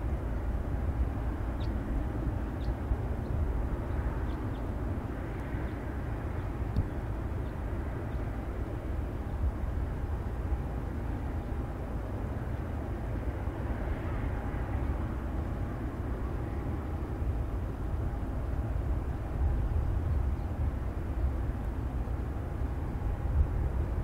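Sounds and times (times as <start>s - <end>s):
faint airliner engine whine: 0.0s - 24.0s
wind buffeting microphone: 0.0s - 24.0s.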